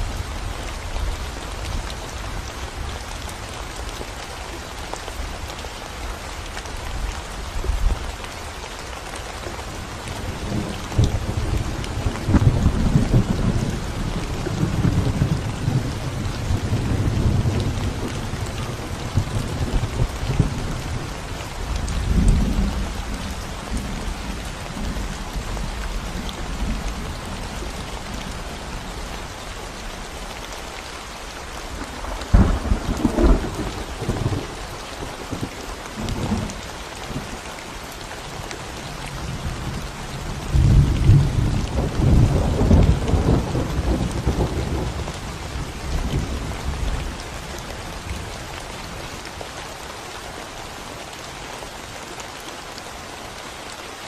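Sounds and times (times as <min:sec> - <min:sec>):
rain on concrete: 0:00.0 - 0:54.0.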